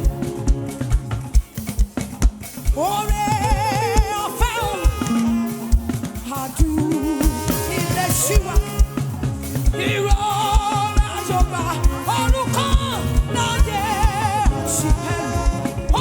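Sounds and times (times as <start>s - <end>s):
drum and bass beat: 0.0s - 16.0s
live worship band music: 0.0s - 16.0s
person singing long notes: 2.8s - 16.0s.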